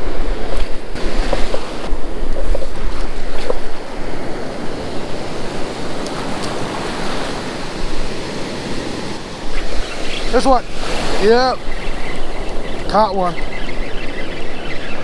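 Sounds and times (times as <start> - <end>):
ocean surf washing: 0.0 - 15.0
wind rumble on microphone: 0.0 - 15.0.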